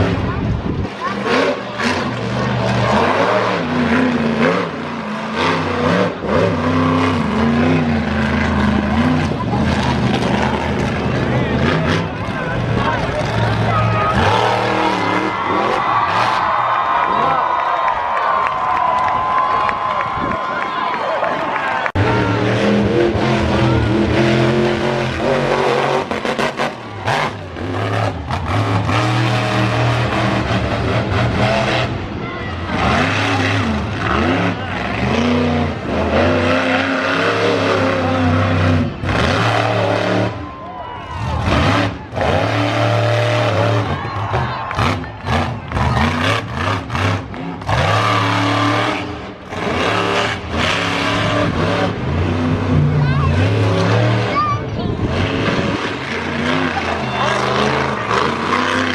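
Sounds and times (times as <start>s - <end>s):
truck engine revving: 0.0s - 18.7s, 21.3s - 58.9s.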